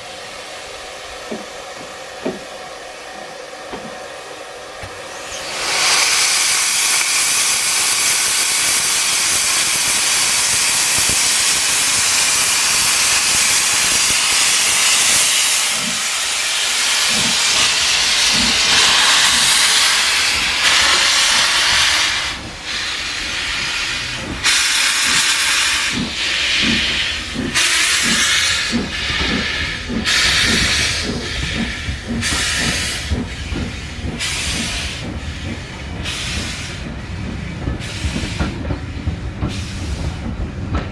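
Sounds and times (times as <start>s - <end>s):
steam locomotive hissing steam: 0.0s - 40.7s
locomotive exhaust chuffs: 2.3s - 40.7s.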